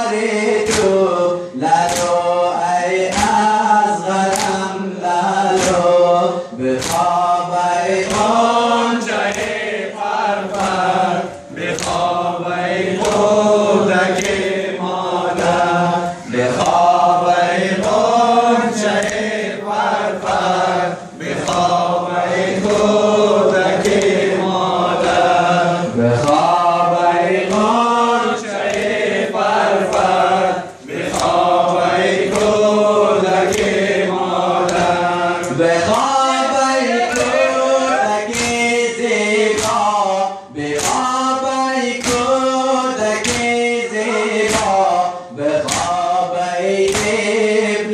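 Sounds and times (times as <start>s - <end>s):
men chanting in unison: 0.0s - 47.9s
rhythmic chest slaps: 0.0s - 47.9s.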